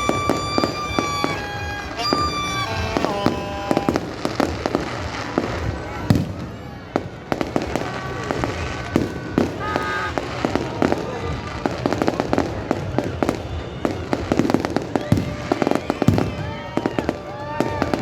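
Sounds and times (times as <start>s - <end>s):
fireworks bangs and crackling: 0.0s - 18.0s
fireworks whistling: 0.0s - 18.0s.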